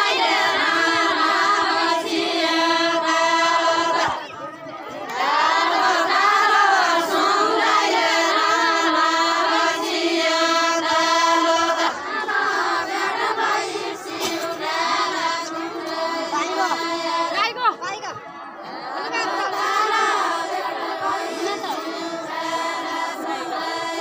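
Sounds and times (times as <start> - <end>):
women singing unaccompanied: 0.0 - 24.0.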